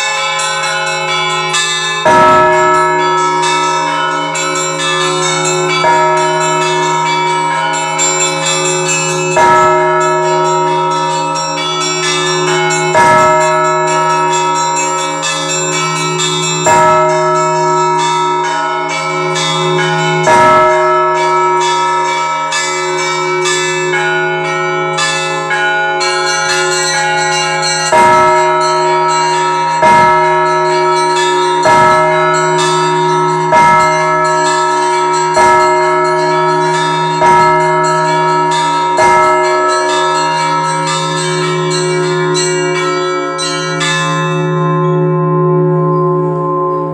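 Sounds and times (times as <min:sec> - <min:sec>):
heavy low bell strikes: 0:00.0 - 0:46.9
small church bells ringing: 0:00.0 - 0:46.9.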